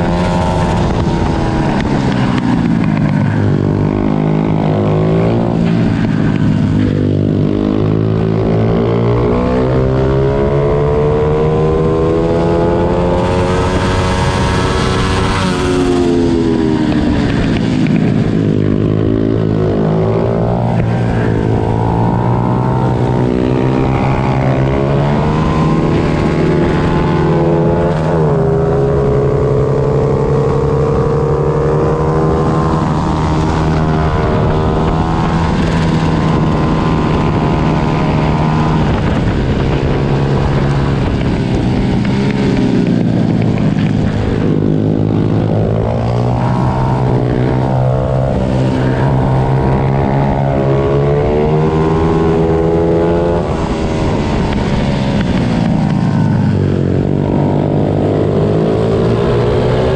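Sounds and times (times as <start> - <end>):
pit bike engines revving: 0.0 - 59.9.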